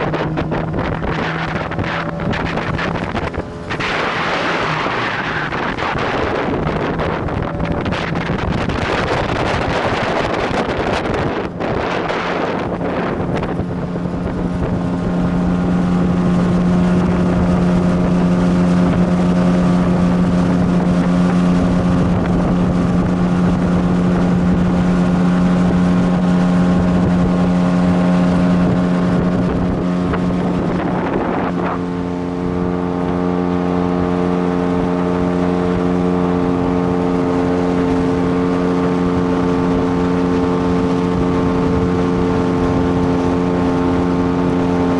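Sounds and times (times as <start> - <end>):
motorboat engine running: 0.0 - 44.9
wind on microphone: 0.0 - 44.9.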